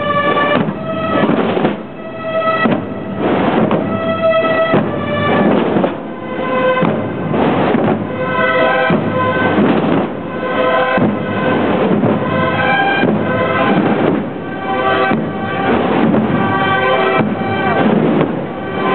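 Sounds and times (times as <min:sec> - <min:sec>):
brass melody: 0:00.0 - 0:18.9
drumbeats: 0:00.0 - 0:18.9.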